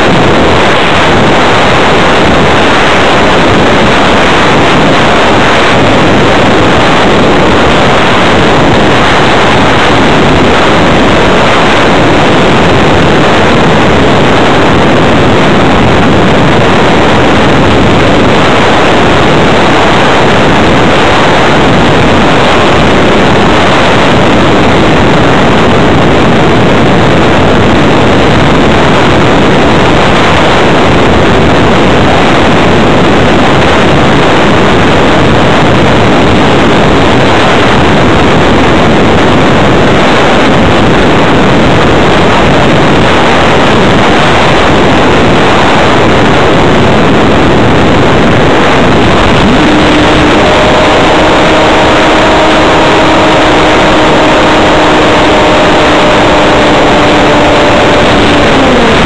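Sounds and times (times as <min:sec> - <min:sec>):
rushing airflow noise: 0:00.0 - 0:59.0.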